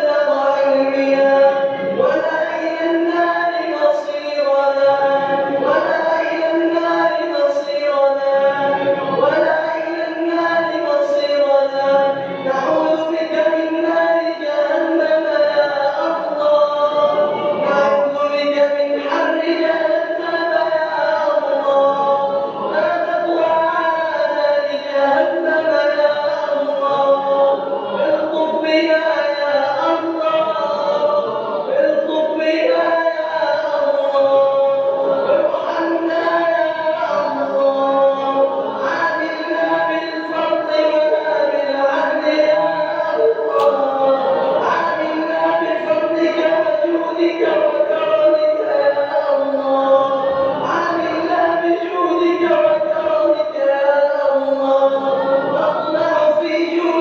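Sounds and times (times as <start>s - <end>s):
man chanting recitation: 0.0s - 57.0s.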